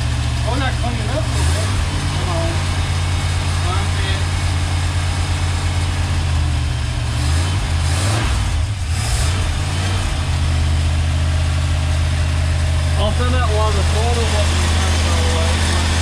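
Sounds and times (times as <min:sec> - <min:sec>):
gasoline engine running: 0:00.0 - 0:16.0.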